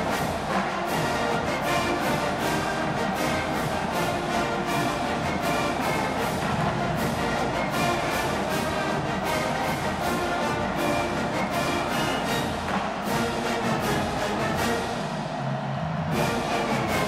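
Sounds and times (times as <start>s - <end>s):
brass instruments playing tune: 0.0s - 17.0s
steady drum beat: 0.0s - 17.0s.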